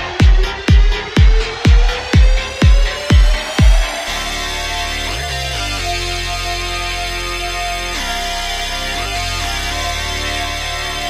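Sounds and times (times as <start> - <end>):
driving instrumental music: 0.0 - 11.0.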